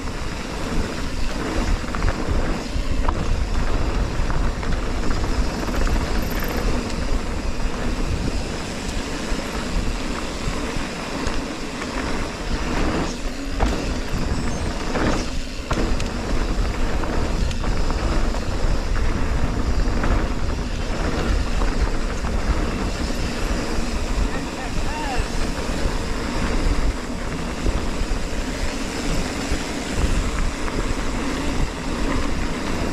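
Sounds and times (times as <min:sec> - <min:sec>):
bike tyres rumbling on dirt: 0:00.0 - 0:32.9
wind buffeting microphone: 0:00.0 - 0:32.9.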